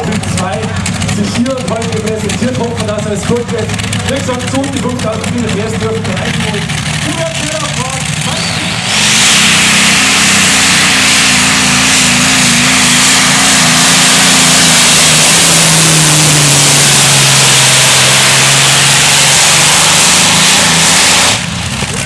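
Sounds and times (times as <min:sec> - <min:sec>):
tractor engine at full power: 0:00.0 - 0:22.0.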